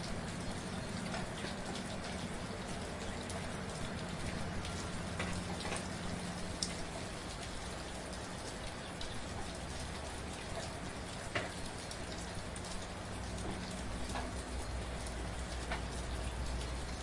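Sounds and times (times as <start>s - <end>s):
raindrops ticking on surface: 0.0s - 17.0s
soft rain falling: 0.0s - 17.0s.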